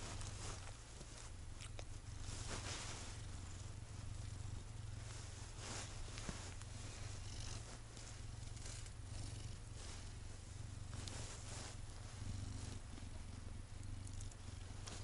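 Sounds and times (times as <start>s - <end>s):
cat purring: 0.0s - 15.0s
hand rustling on fur: 0.0s - 15.0s.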